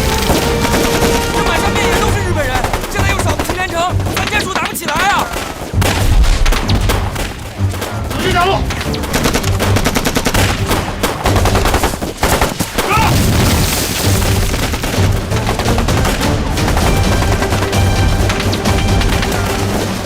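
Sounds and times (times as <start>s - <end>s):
rapid automatic gunfire: 0.0s - 7.9s, 8.6s - 20.0s
dramatic film score: 0.0s - 20.0s.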